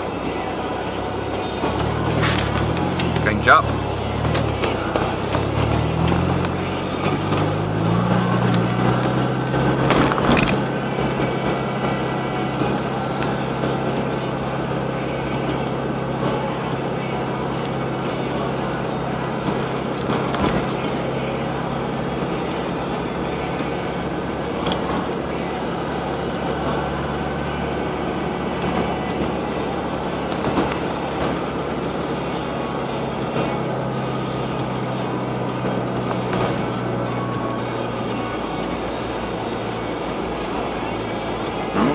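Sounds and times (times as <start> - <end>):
car engine hum: 0.0 - 41.9
tyres on snowy road: 0.0 - 41.9.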